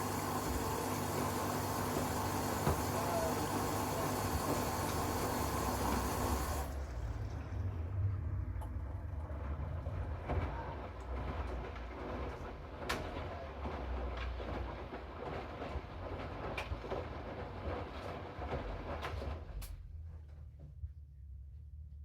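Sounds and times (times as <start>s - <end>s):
washing machine drum rumbling: 0.0s - 19.4s.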